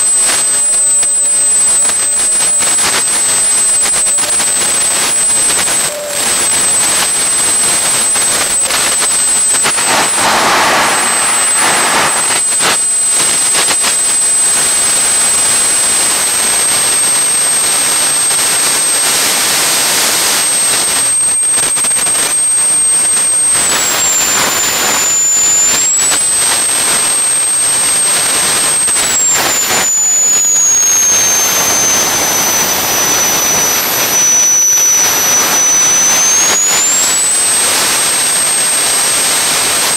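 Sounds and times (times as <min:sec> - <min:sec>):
high-pitched compressor whine: 0:00.0 - 0:39.9
jet engine roar: 0:00.1 - 0:39.9.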